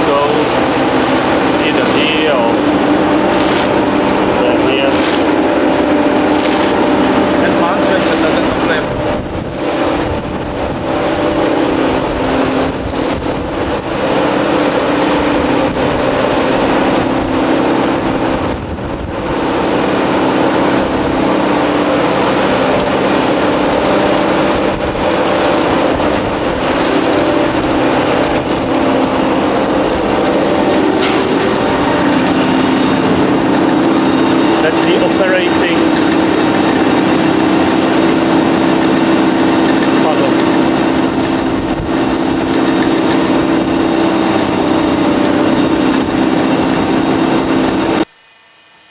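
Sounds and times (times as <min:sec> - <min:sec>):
steady machine drone: 0:00.0 - 0:48.9.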